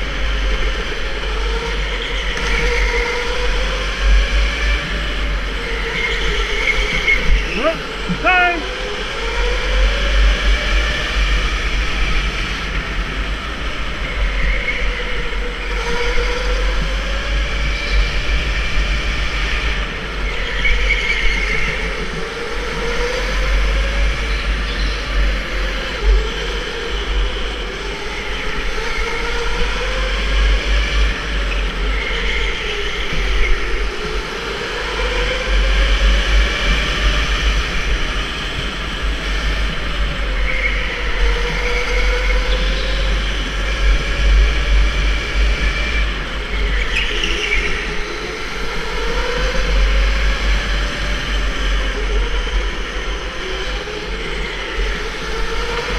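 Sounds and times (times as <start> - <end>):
electric go-kart motor whining: 0.0 - 55.9
wind rumble on microphone: 0.0 - 55.9.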